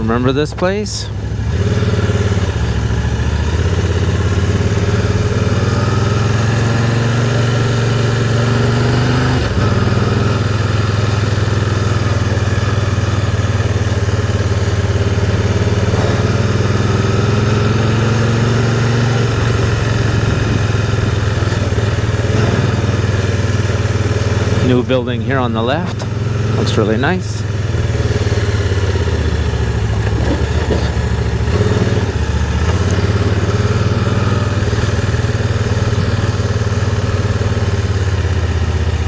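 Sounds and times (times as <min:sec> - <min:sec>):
three-wheeler engine running: 0:00.0 - 0:39.0.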